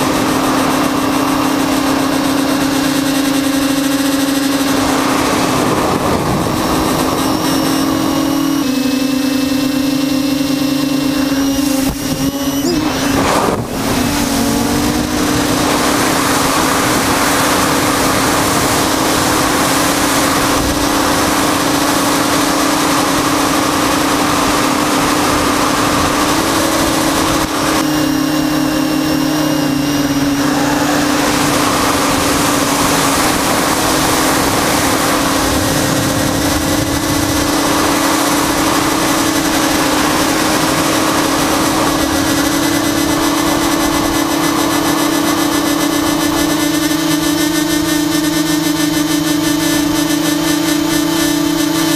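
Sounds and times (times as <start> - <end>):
drone motors whining: 0.0 - 51.9
wind rushing past camera: 2.5 - 46.6.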